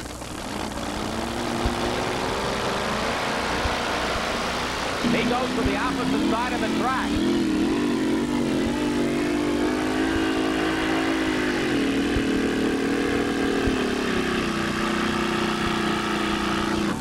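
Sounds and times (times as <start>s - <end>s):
supercharged truck engine under load: 0.0s - 17.0s.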